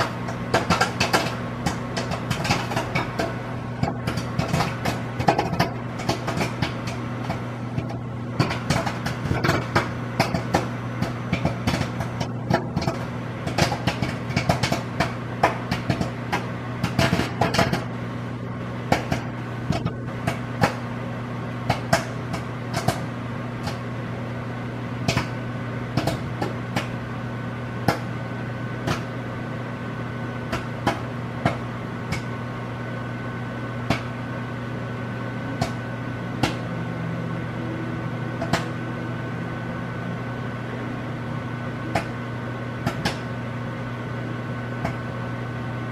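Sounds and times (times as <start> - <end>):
popcorn popping: 0.0 - 39.4, 41.6 - 43.5, 44.4 - 45.4
microwave oven hum: 0.0 - 45.9.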